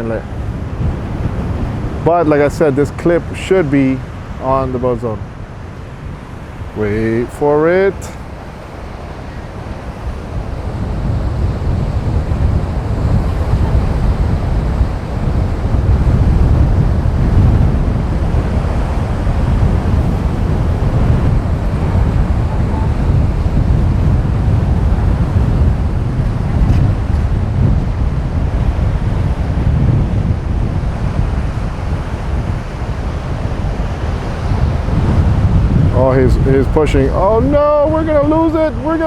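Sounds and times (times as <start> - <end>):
surf breaking: 0.0 - 39.0
wind buffeting the microphone: 0.0 - 39.0.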